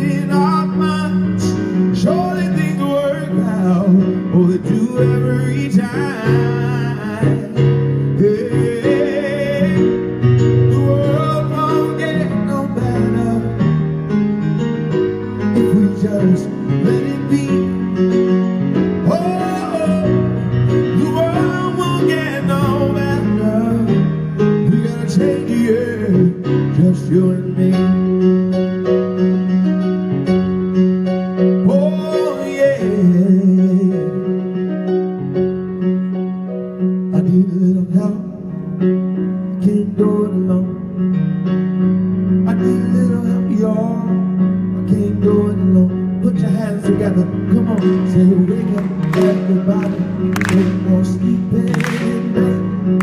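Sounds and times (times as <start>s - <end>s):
man singing with vibrato: 0.0s - 14.0s, 15.4s - 28.4s, 31.6s - 34.7s, 37.0s - 41.1s, 42.4s - 53.0s
grand piano chords: 0.0s - 53.0s.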